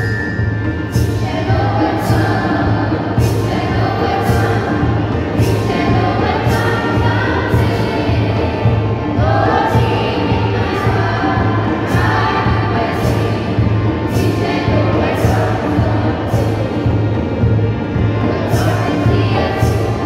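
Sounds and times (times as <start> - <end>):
hand drums beating: 0.0 - 20.0
students singing together: 0.0 - 20.0.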